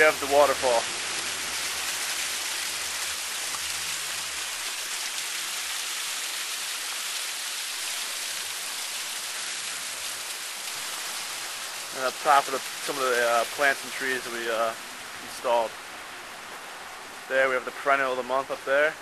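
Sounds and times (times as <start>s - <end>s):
waterfall splashing: 0.0s - 19.0s.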